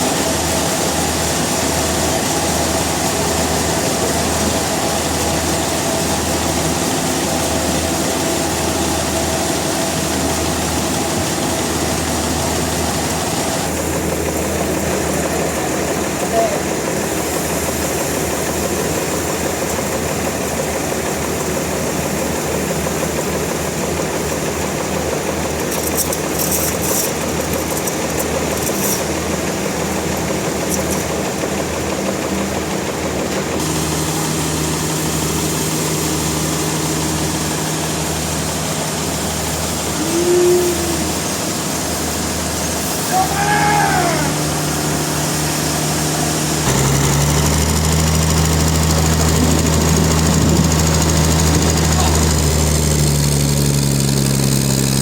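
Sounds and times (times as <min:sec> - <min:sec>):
sawmill engine humming: 0:00.0 - 0:55.0.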